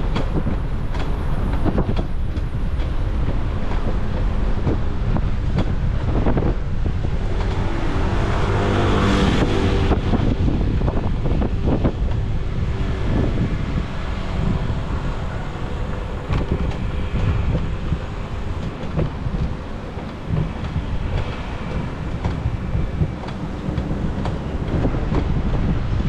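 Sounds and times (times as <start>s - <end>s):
low rumble of traffic: 0.0s - 26.0s
wind buffeting microphone: 0.0s - 26.0s.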